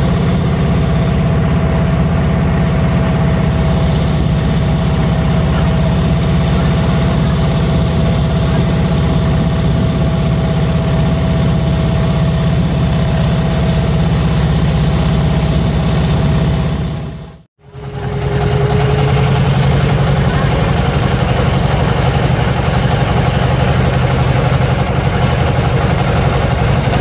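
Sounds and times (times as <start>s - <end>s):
diesel boat engine chugging: 0.0s - 27.0s.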